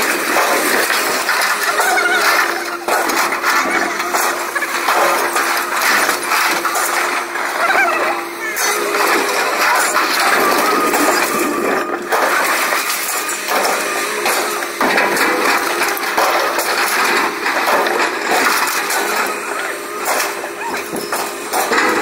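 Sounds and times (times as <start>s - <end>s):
scrap metal clanking: 0.0s - 7.7s, 8.6s - 22.0s.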